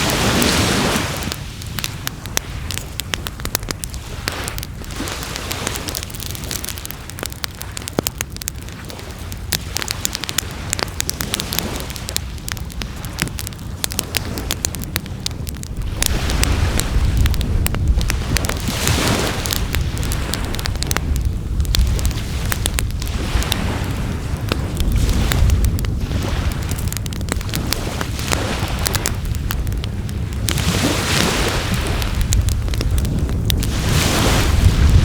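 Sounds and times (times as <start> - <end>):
bonfire crackling and popping: 0.0 - 35.0.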